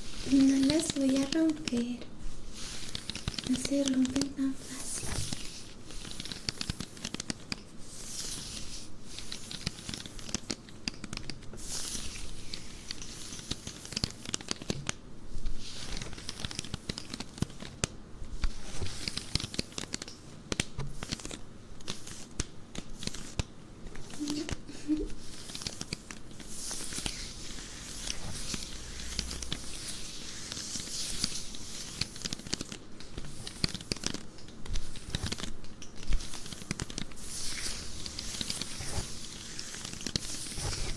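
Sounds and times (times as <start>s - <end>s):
scratching and rubbing stockings: 0.0s - 40.9s.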